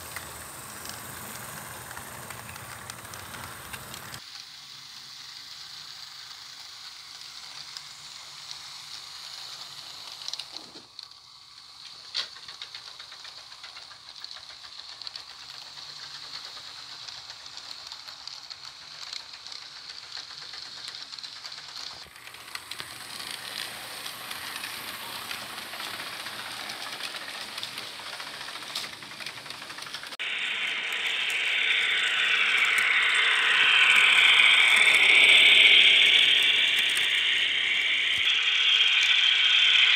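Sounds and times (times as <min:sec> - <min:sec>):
wheels clicking over rail joints: 0:00.0 - 0:04.4, 0:05.0 - 0:39.9
model train motors whirring: 0:00.0 - 0:39.9.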